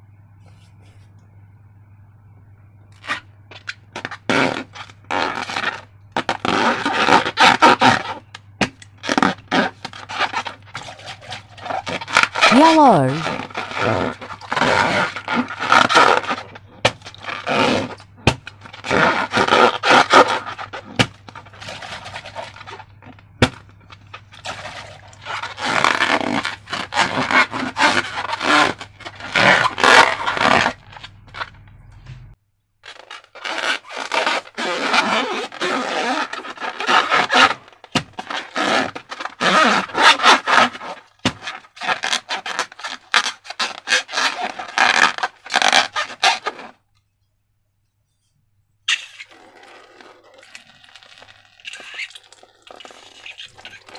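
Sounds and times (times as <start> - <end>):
slime wet scraping and squishing: 3.0 - 31.7, 32.8 - 47.1, 48.9 - 53.9.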